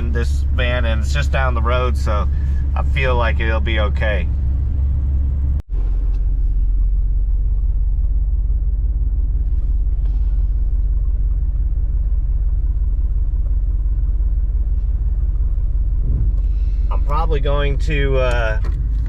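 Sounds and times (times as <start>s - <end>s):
van engine and road rumble: 0.0s - 19.0s.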